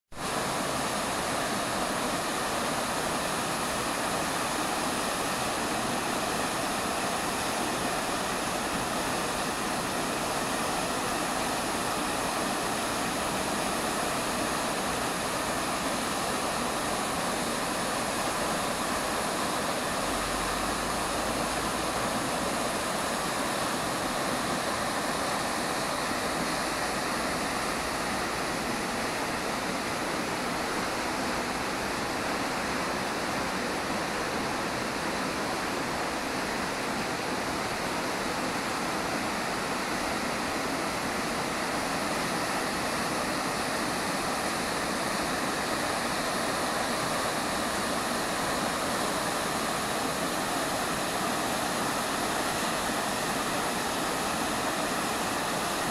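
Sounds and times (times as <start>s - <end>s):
waterfall rushing: 0.1s - 55.9s.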